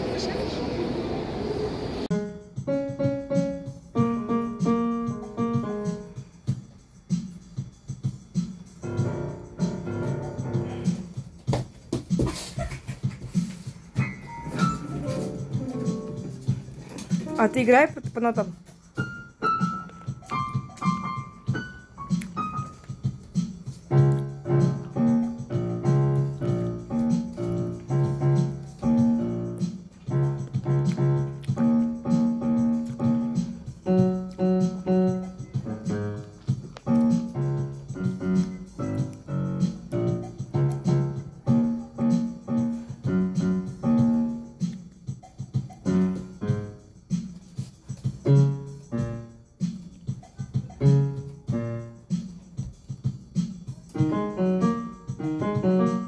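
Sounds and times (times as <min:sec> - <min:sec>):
piano playing: 0:02.0 - 0:11.5, 0:13.9 - 0:53.0, 0:53.8 - 0:56.0.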